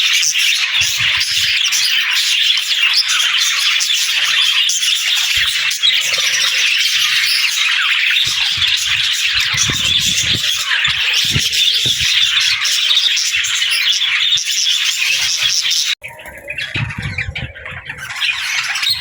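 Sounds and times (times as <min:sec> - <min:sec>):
budgies warbling and chattering: 0:00.0 - 0:19.0.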